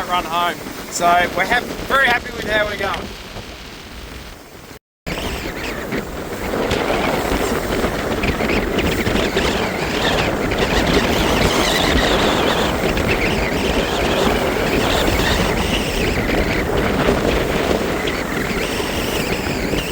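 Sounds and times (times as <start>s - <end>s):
water rushing along hull: 0.0s - 19.9s
wind buffeting microphone: 0.0s - 19.9s.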